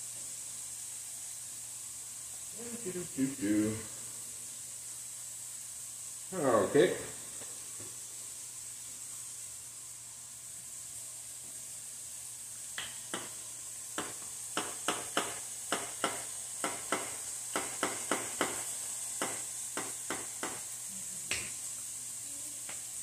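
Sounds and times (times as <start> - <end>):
steak sizzling in a frying pan: 0.0 - 23.0.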